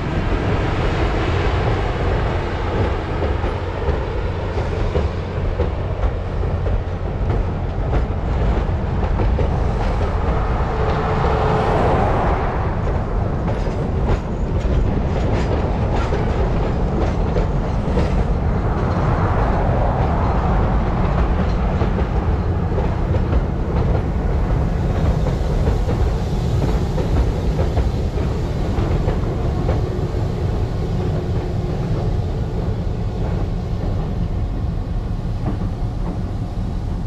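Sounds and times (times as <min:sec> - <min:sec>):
diesel locomotives passing: 0:00.0 - 0:37.0
train rolling over steel bridge: 0:00.0 - 0:37.0.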